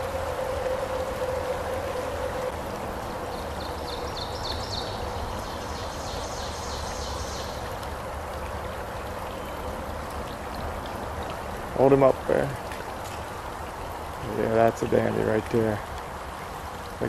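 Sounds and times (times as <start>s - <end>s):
brook water flowing: 0.0s - 17.0s.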